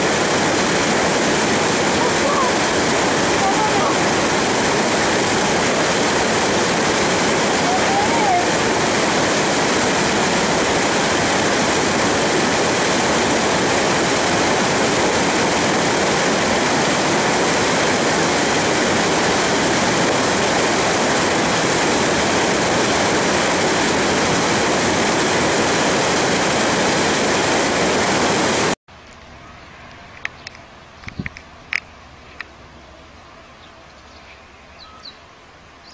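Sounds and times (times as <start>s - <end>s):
stream water over rocks: 0.0s - 28.8s.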